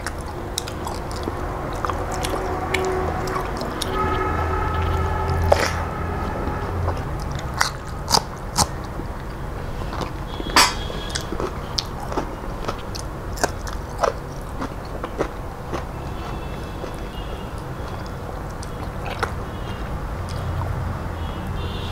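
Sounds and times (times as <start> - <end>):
person chewing food: 0.0 - 20.8.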